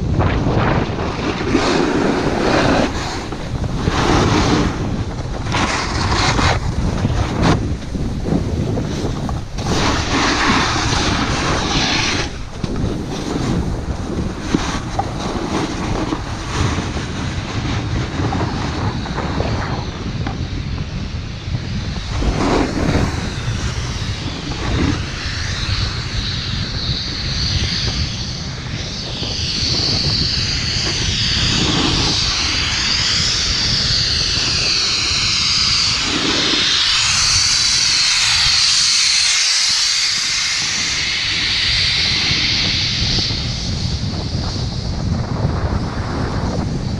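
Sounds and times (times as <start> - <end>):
snowboard scraping over snow: 0.0 - 46.9
wind buffeting microphone: 0.0 - 46.9.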